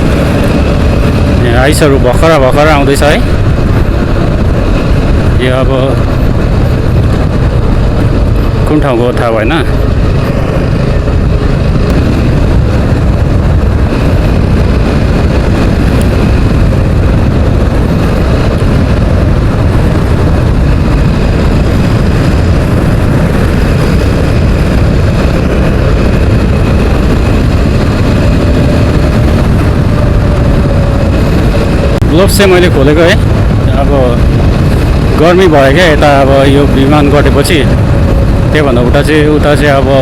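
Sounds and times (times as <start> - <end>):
motorcycle cruising: 0.0 - 40.0.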